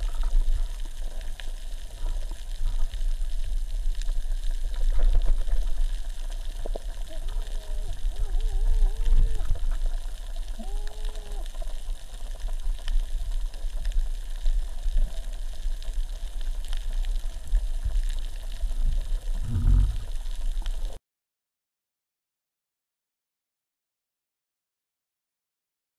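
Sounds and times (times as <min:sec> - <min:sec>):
underwater rumble: 0:00.0 - 0:21.0.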